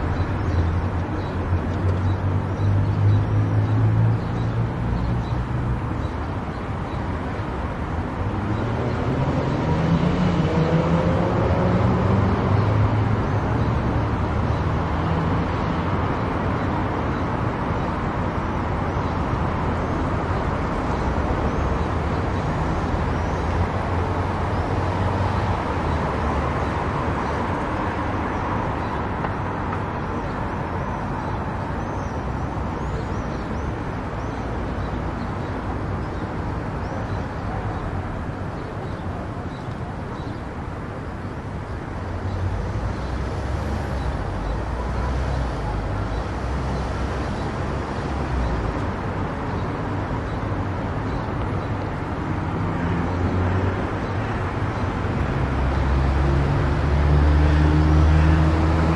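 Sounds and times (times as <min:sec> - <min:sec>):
tyre and road noise: 0:00.0 - 0:58.9.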